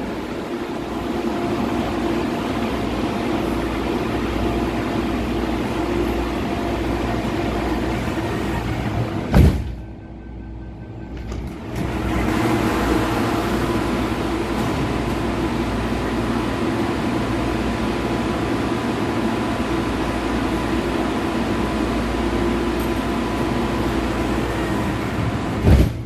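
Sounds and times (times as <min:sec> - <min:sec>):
train interior rushing in tunnel: 0:00.0 - 0:26.0.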